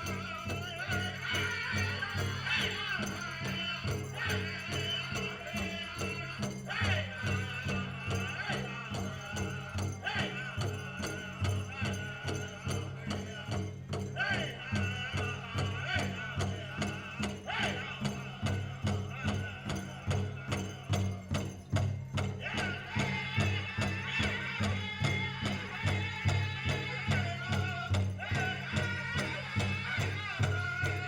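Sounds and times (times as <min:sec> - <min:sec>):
big drum beating: 0:00.0 - 0:31.0
jingling bells: 0:00.0 - 0:31.0.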